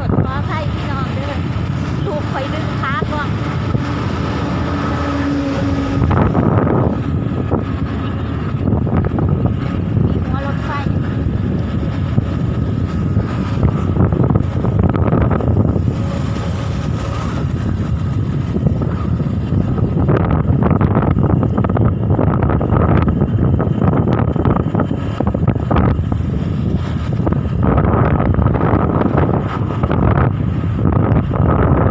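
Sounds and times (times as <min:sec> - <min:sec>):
moving vehicle rumble: 0:00.0 - 0:31.9
wind on microphone: 0:00.0 - 0:31.9.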